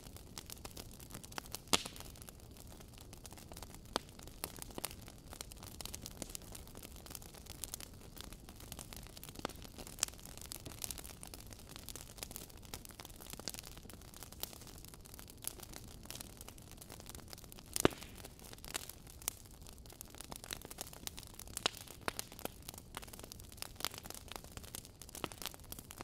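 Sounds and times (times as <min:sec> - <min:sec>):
logs crackling in a fireplace: 0:00.0 - 0:26.0
low fire rumble: 0:00.0 - 0:26.0.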